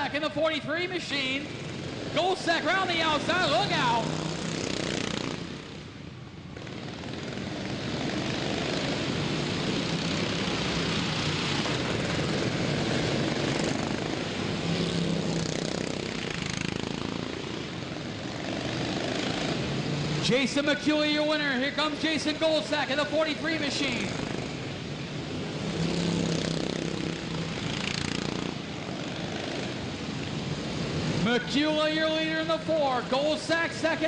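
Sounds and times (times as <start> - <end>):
lawn mower engines racing: 0.0 - 34.0.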